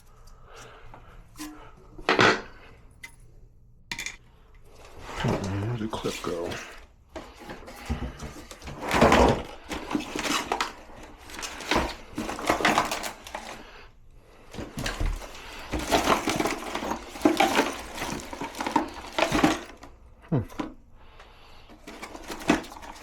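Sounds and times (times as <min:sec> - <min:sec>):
small parts clattering and rustling: 0:00.0 - 0:23.0.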